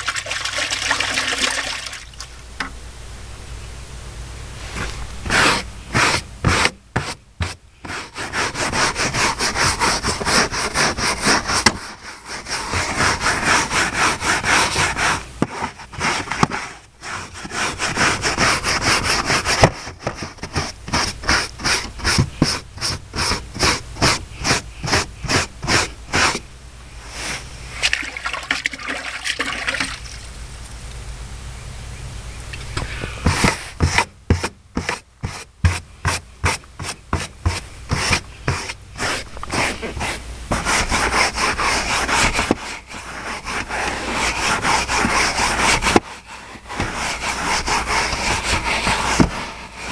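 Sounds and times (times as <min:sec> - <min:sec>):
carpet being scrubbed by hand: 0:04.5 - 0:29.9, 0:33.2 - 0:49.9.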